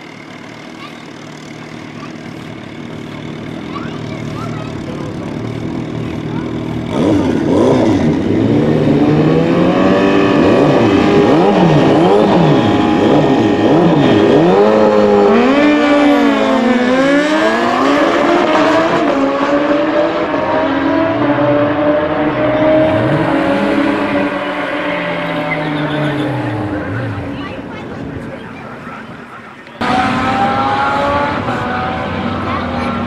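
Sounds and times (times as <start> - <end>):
motorcycles accelerating hard: 0.0 - 33.0
superbike engines revving: 0.0 - 33.0.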